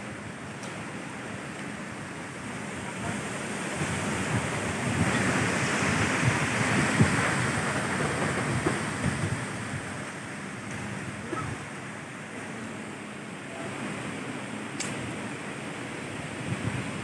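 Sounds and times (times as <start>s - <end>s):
surf rushing: 0.0s - 17.0s
strong wind buffeting microphone: 1.3s - 17.0s.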